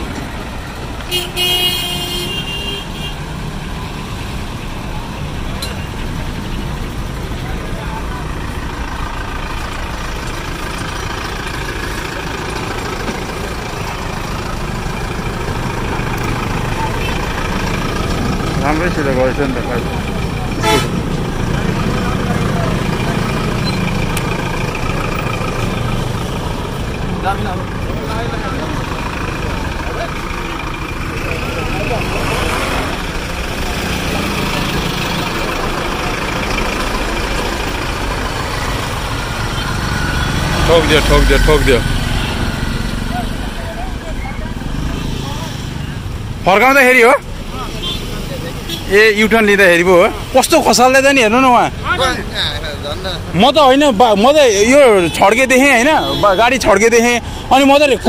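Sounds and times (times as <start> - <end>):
traffic noise: 0.0 - 58.0
vehicle engines idling: 0.0 - 58.0.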